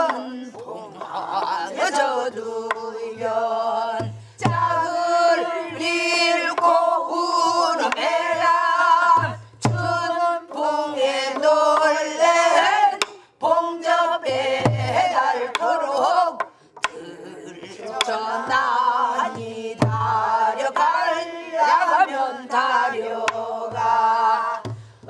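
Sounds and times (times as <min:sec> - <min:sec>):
woman singing lead: 0:00.0 - 0:24.8
group singing folk song: 0:00.0 - 0:25.0.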